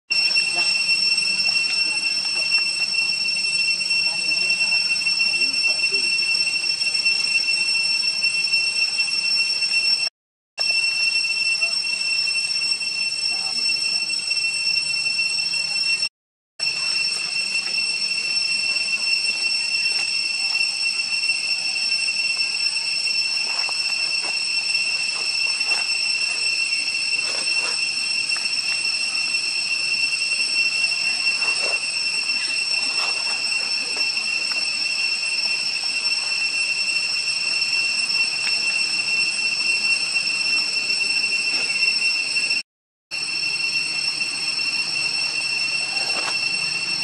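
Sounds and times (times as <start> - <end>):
high-pitched insect chorus: 0.1 - 9.9, 10.6 - 16.0, 16.6 - 42.6, 43.2 - 47.0.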